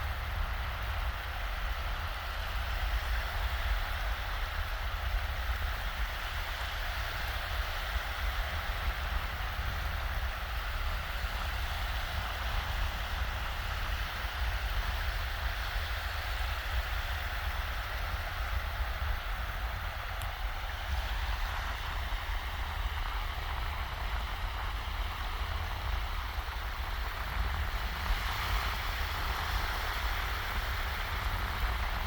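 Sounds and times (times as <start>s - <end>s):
waves washing on sand: 0.0s - 32.0s
wind rumble on microphone: 0.0s - 32.0s.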